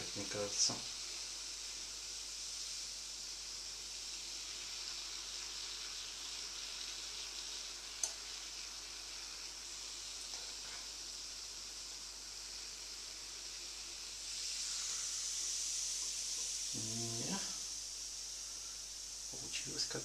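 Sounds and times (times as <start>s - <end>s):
batter sizzling in waffle iron: 0.0s - 20.0s.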